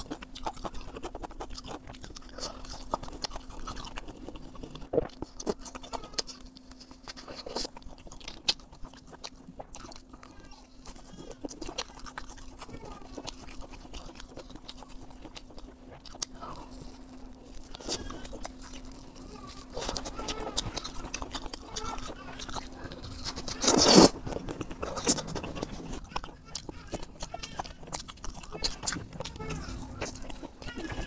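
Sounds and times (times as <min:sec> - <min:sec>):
chewing and biting food: 0:00.0 - 0:31.0
faint steady hum: 0:00.0 - 0:31.0.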